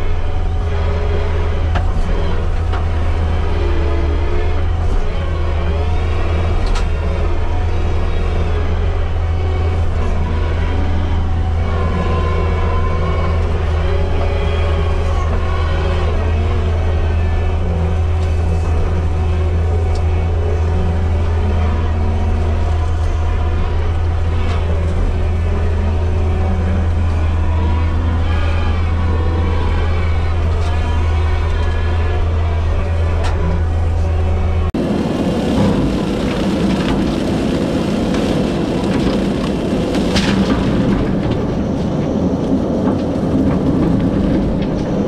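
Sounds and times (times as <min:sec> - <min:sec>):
diesel engine droning: 0:00.0 - 0:45.0
faint wavering whines: 0:00.0 - 0:45.0.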